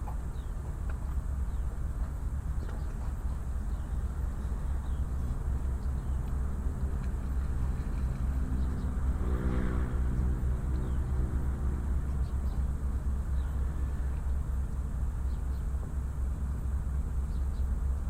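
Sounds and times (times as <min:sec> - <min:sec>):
steady low rumble: 0:00.0 - 0:18.0
passing vehicle engine hum: 0:01.1 - 0:18.0.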